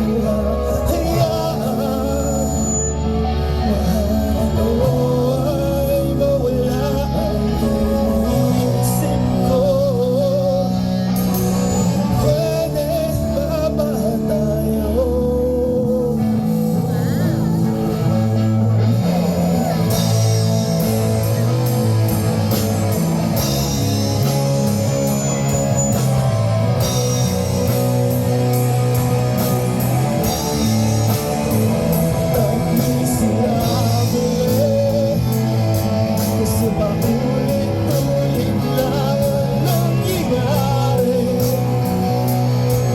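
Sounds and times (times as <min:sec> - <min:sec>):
drums and cymbals: 0:00.0 - 0:42.9
live rock band: 0:00.0 - 0:42.9.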